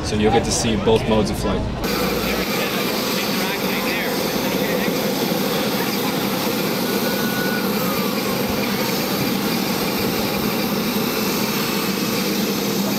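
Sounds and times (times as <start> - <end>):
aircraft engines droning: 0.0 - 12.9.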